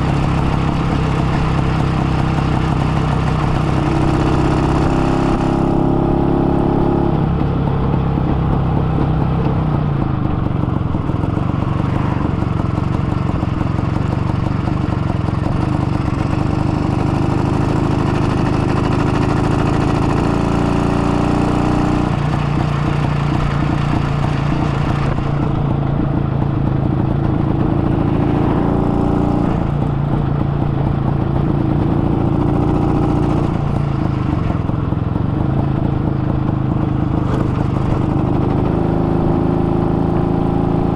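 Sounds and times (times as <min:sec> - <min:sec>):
two-stroke motorcycle engine running: 0:00.0 - 0:40.9.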